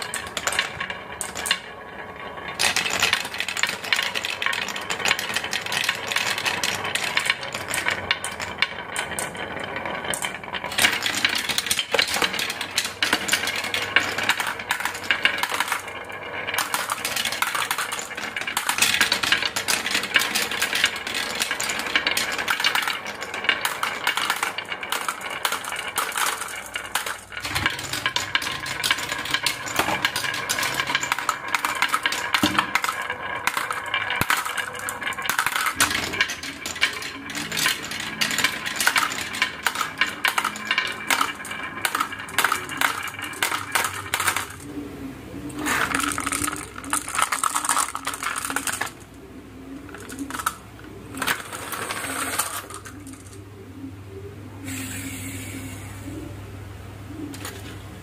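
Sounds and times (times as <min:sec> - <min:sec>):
marbles clicking down a track: 0:00.0 - 0:53.9.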